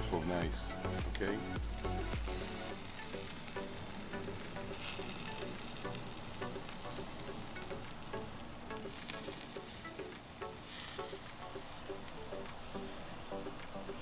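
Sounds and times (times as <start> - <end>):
faint background music: 0.0 - 14.0
meat sizzling on a grill: 0.0 - 14.0.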